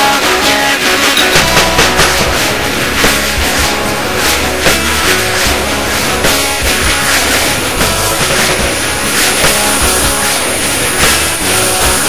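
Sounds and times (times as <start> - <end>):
rock music with drums and guitar: 0.0 - 12.0.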